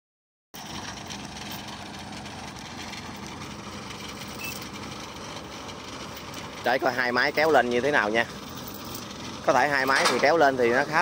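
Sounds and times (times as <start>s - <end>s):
harvester engines humming: 0.6s - 11.0s.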